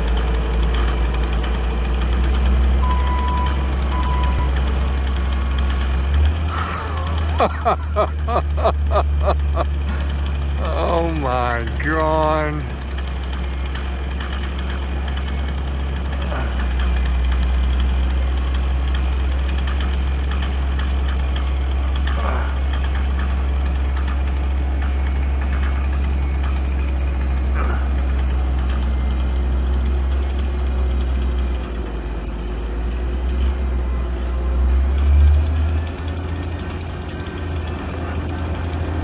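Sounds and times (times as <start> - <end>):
crane engine idling: 0.0 - 39.0.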